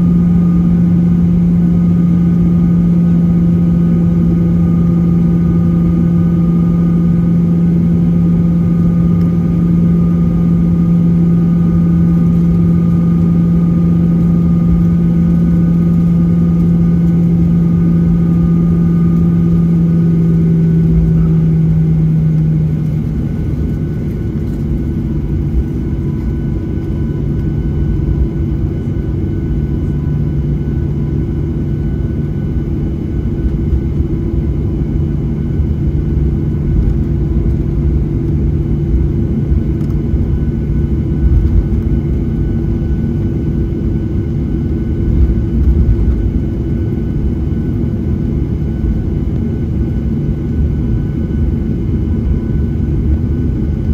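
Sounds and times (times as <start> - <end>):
jet engines humming in cabin: 0.0 - 53.9.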